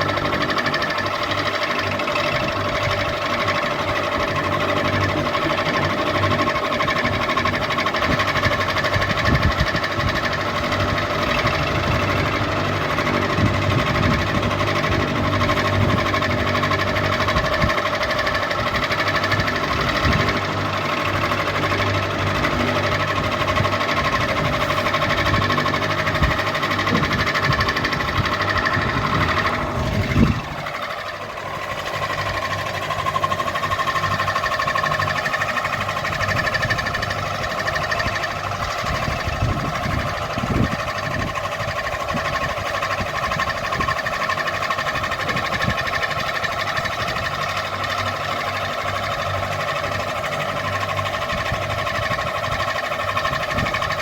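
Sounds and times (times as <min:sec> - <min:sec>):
ceiling fan humming and rattling: 0:00.0 - 0:54.0.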